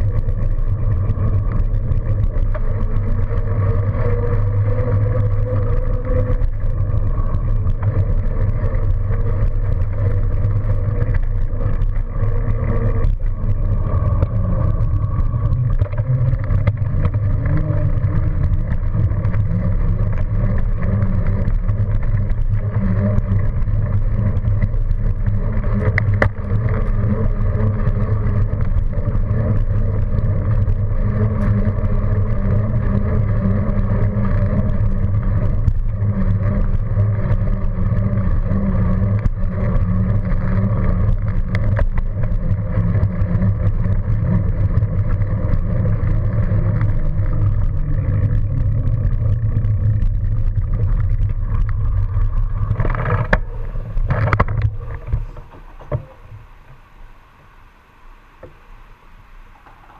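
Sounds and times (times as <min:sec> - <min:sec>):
tyre and road noise: 0:00.0 - 0:59.9.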